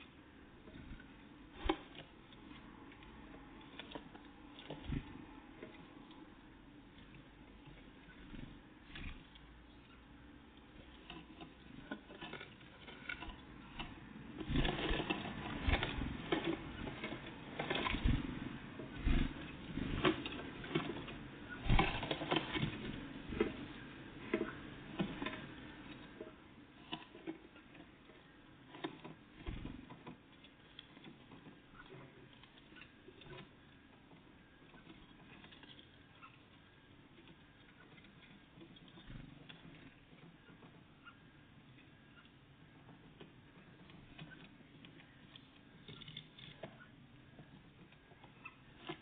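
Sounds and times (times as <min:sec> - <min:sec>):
birds pecking at seeds: 0:00.0 - 0:49.0.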